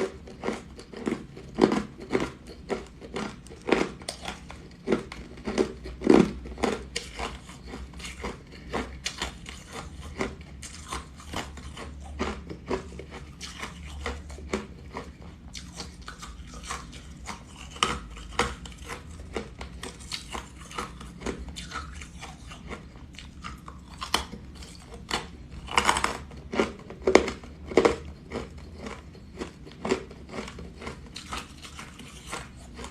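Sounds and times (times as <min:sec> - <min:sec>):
chewing crunchy ice: 0:00.0 - 0:32.9.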